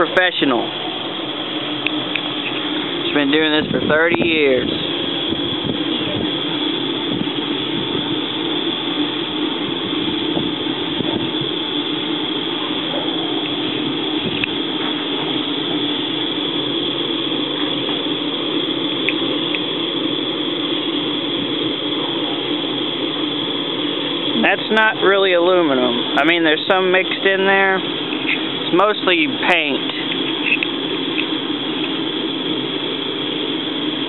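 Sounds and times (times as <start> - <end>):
air compressor drone: 0.0 - 34.0.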